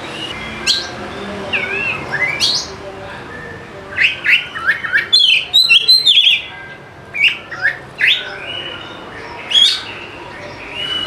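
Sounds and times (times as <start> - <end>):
magpie-robin singing: 0.0 - 11.0.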